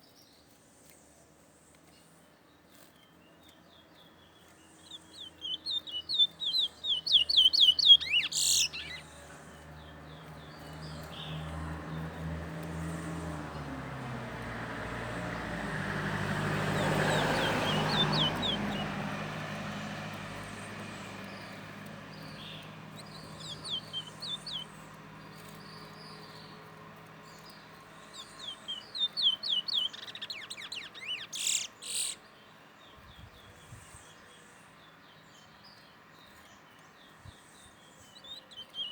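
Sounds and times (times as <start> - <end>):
bird chirping: 1.9 - 12.4, 14.9 - 38.9.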